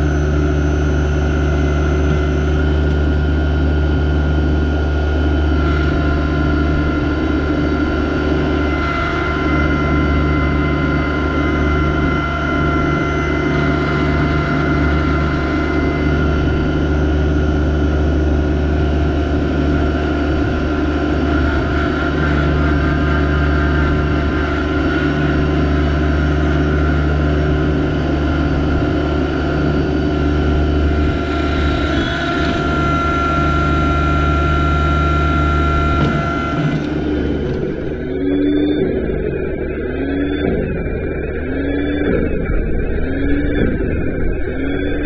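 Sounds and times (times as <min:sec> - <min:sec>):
high whine: 0:00.0 - 0:45.0
tractor diesel engine running: 0:00.0 - 0:45.0.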